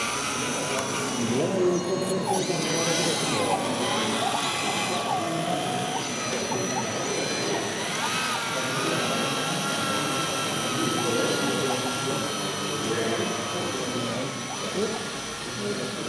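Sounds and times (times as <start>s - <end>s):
small electric motors whirring: 0.0s - 16.0s.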